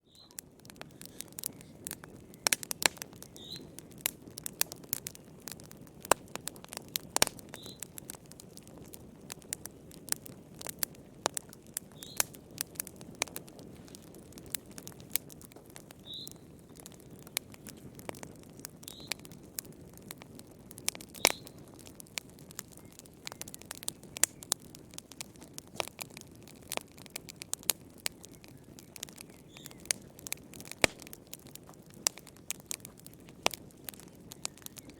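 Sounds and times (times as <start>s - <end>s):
fire crackling and popping: 0.0s - 34.9s
low rush of flames: 0.1s - 34.9s.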